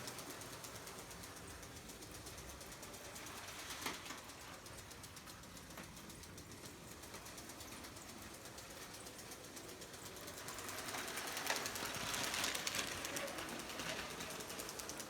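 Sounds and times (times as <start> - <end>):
toy train motor clatter: 0.0 - 15.0.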